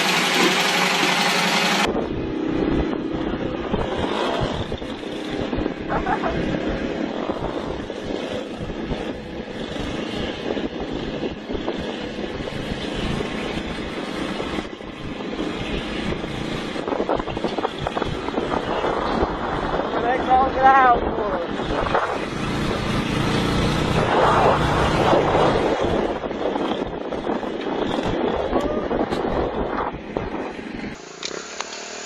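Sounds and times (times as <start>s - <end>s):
motorcycle engine running: 0.0s - 32.0s
rushing noise: 0.0s - 32.0s.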